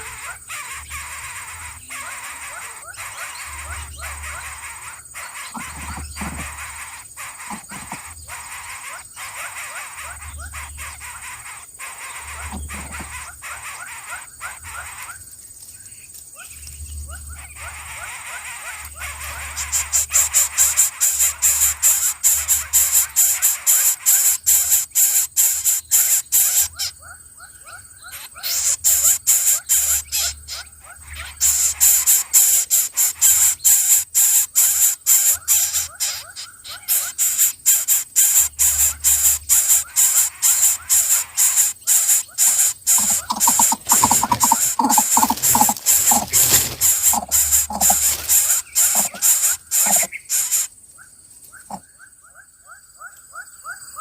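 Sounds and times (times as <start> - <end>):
bird of prey chicks calling: 0.0 - 54.0.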